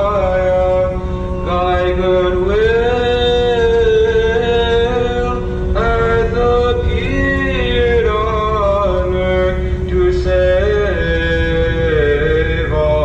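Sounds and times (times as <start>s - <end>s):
person singing slow melody: 0.0s - 13.0s
vehicle rumble on road: 0.0s - 13.0s.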